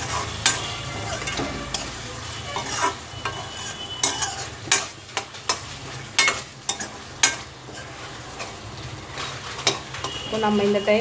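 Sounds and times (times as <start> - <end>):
metal ladle scraping a pan: 0.0 - 10.8
soft frying sizzle: 0.0 - 11.0.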